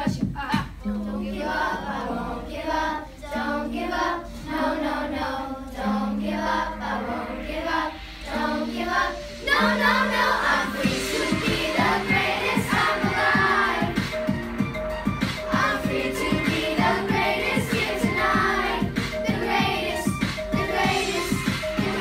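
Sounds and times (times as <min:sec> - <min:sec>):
children singing together: 0:00.8 - 0:22.0.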